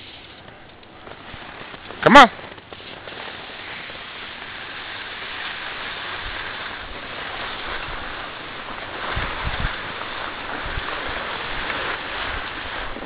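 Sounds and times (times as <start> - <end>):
skis sliding on packed snow: 0.0 - 13.0
wind buffeting microphone: 0.7 - 13.0.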